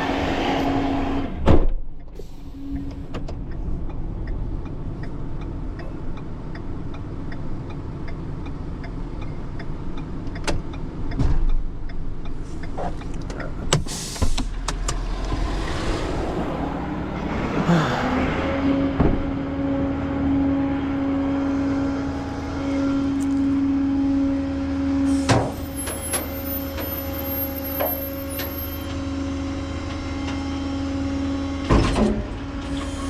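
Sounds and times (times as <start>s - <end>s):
tow truck engine running: 2.2s - 33.0s.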